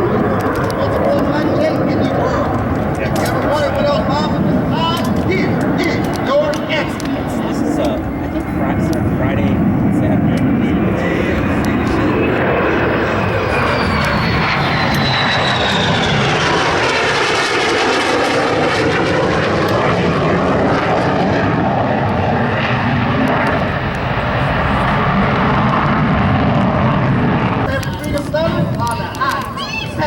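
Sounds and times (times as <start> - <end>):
high jet whine falling in pitch: 0.0 - 30.0
jet engine roar: 0.0 - 30.0.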